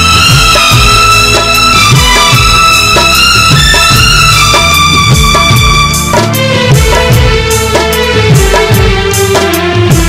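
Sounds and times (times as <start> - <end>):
electronic keyboard: 0.0 - 10.0
steady drum beat: 0.0 - 10.0.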